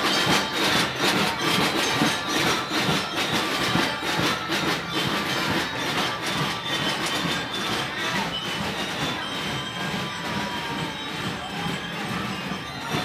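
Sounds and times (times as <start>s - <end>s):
drum corps playing: 0.0s - 13.0s.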